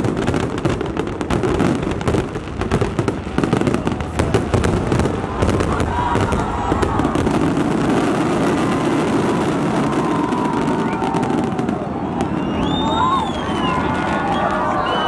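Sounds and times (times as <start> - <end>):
sharp firework cracks: 0.0 - 14.3
fireworks bursting and crackling: 0.0 - 15.0.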